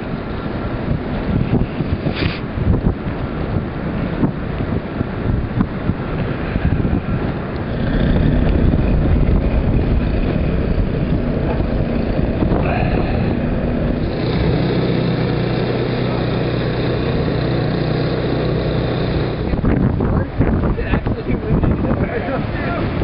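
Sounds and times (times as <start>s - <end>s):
engine running steadily: 0.0s - 23.0s
rough outdoor noise: 0.0s - 23.0s.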